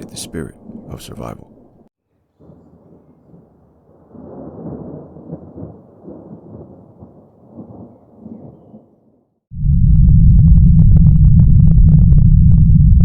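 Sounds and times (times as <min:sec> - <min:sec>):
rolling thunder rumbling: 0:00.0 - 0:09.0, 0:09.6 - 0:13.0.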